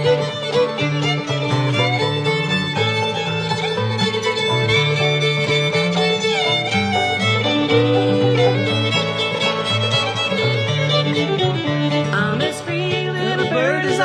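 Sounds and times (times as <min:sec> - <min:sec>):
fiddle melody: 0:00.0 - 0:14.0
string band playing: 0:00.0 - 0:14.0.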